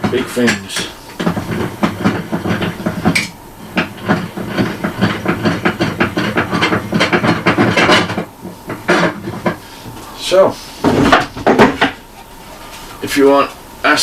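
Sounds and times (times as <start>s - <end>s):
clattering and knocking: 0.0s - 10.0s, 10.8s - 12.1s
drum sander motor hum: 0.0s - 13.9s.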